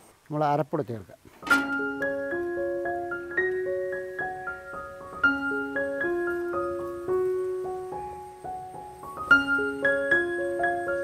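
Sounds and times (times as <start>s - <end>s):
slow piano melody: 1.4s - 11.0s.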